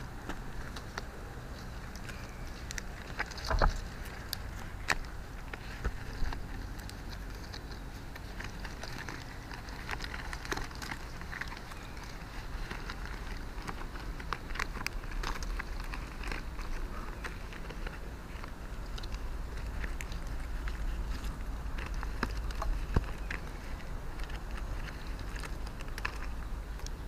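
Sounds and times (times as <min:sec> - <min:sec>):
leaves rustling and crackling: 0:00.0 - 0:27.0
steady low rumble: 0:00.0 - 0:27.0.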